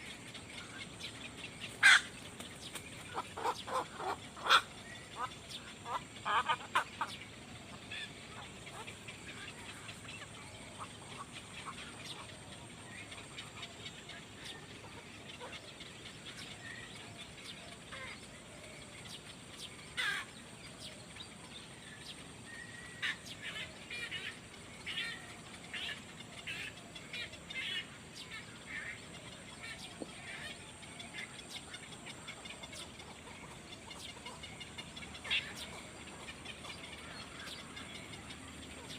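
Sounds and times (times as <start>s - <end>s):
faint steady hiss: 0.0s - 38.9s
small birds chirping: 0.0s - 38.9s.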